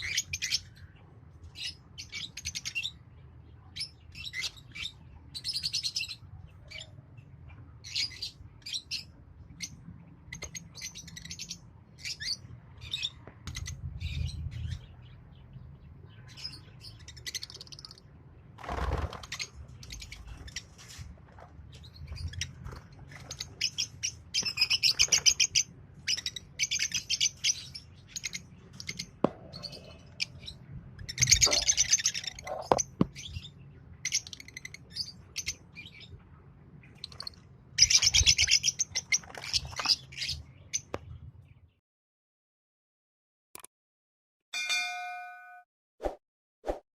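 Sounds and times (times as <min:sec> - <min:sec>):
lovebirds chirping: 0:00.0 - 0:18.2, 0:19.1 - 0:21.0, 0:21.6 - 0:36.2, 0:36.8 - 0:41.8.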